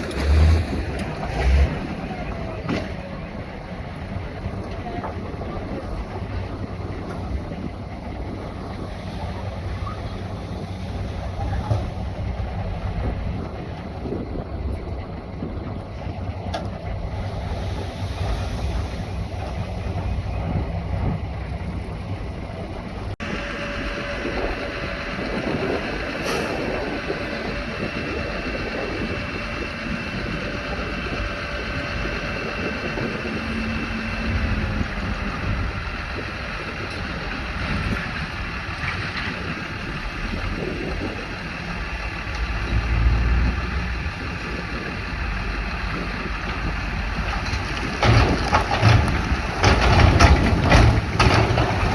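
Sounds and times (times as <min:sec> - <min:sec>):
heavy diesel machinery rumbling: 0:00.0 - 0:51.9.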